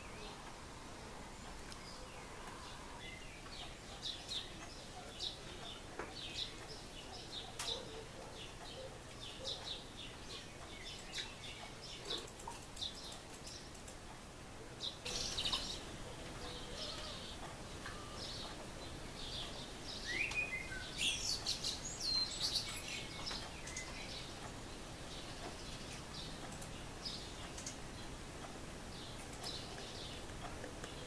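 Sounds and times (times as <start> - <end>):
woodpeckers calling: 1.4 - 14.1, 14.8 - 31.0.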